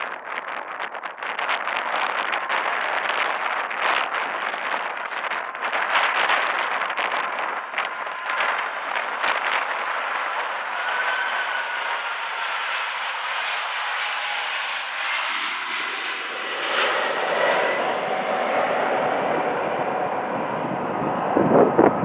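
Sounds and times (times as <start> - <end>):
faint engine whine: 0.0 - 22.0
jet engines rushing: 0.0 - 22.0
wind buffeting microphone: 0.0 - 22.0.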